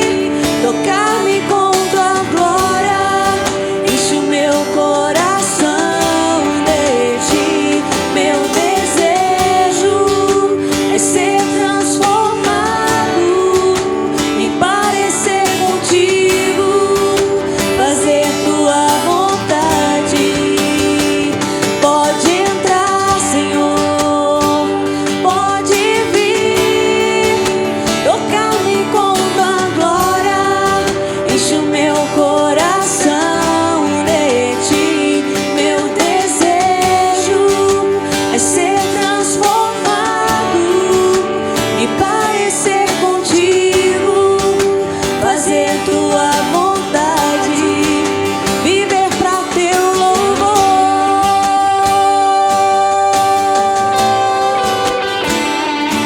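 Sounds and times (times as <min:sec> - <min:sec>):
live worship band music: 0:00.0 - 0:56.0.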